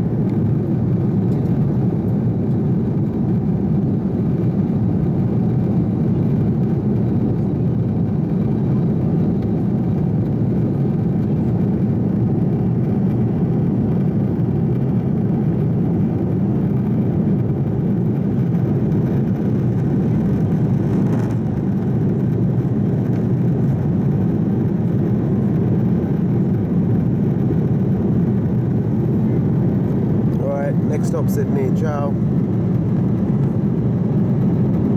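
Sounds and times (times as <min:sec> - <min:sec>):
airliner cabin engine roar: 0:00.0 - 0:34.9.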